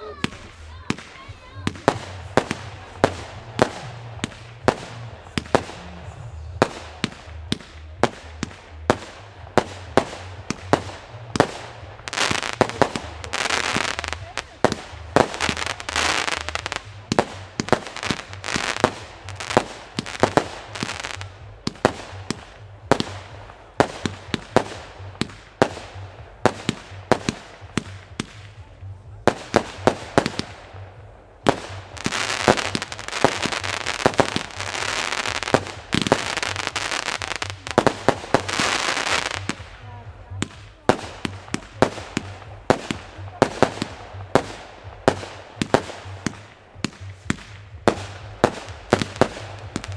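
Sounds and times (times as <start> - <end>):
firework crackling: 0.0 - 49.9.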